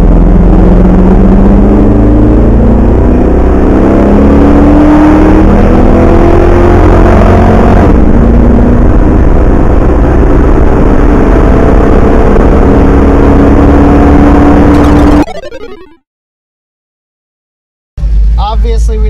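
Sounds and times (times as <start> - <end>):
truck engine at full throttle: 0.0 - 15.9, 18.0 - 19.0.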